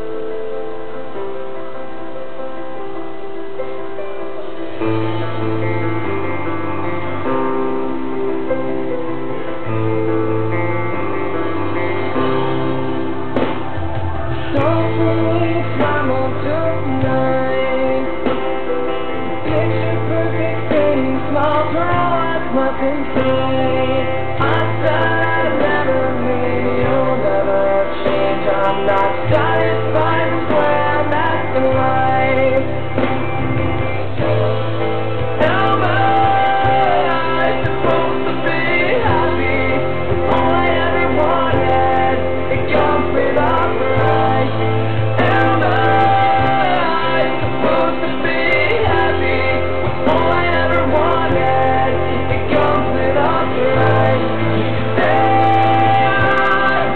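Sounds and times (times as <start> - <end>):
guitar: 0.0 - 56.9
bass line: 3.5 - 56.9
person singing: 4.0 - 56.9.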